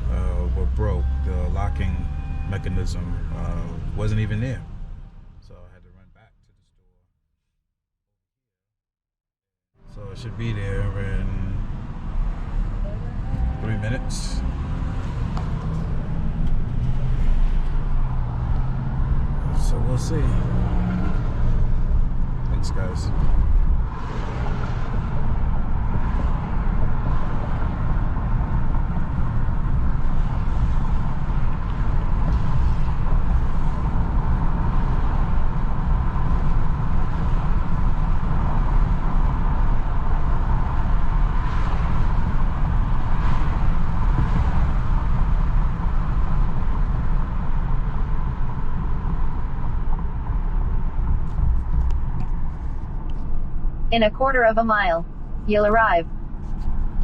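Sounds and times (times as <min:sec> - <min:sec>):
truck road and engine rumble: 0:00.0 - 0:06.0, 0:09.8 - 0:57.0.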